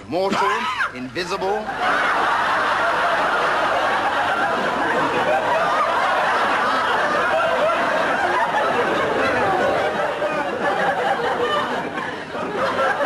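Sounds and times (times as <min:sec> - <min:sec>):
audience laughing: 0:01.3 - 0:13.0.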